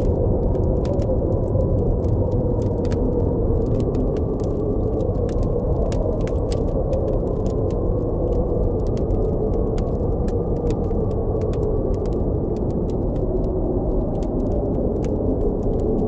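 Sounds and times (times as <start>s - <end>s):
campfire crackling: 0.0s - 16.0s
low blizzard wind: 0.0s - 16.0s.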